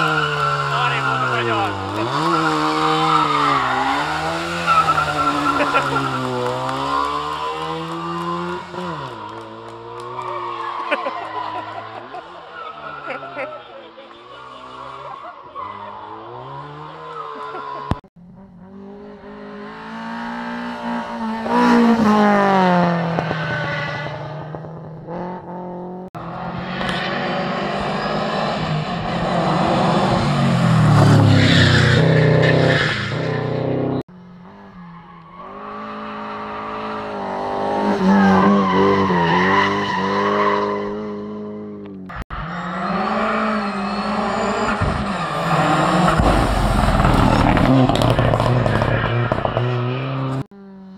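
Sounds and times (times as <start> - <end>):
rally cars revving past: 0.0 - 50.5.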